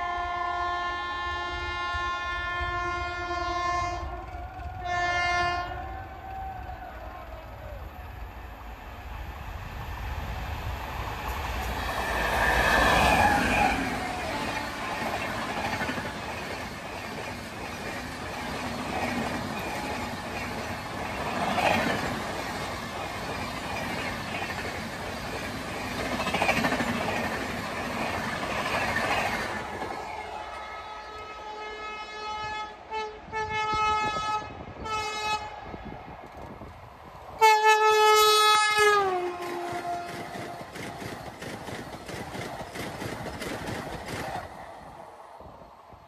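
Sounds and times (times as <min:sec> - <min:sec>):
train wheels rushing on rails: 0:03.8 - 0:31.5, 0:33.3 - 0:46.0.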